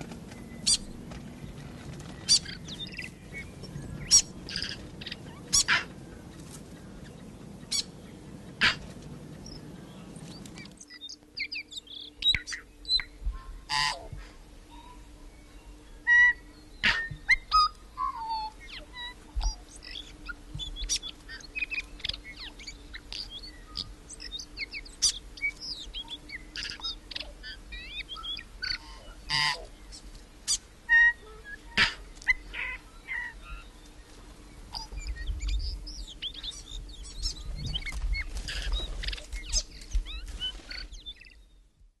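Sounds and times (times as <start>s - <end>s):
forest birds chirping and whistling: 0.0s - 13.5s, 14.6s - 41.7s
faint steady hum: 0.0s - 42.0s.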